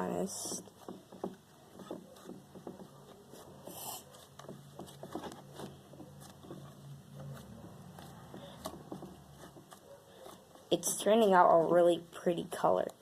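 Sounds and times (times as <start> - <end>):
slime squishing: 0.2 - 11.3.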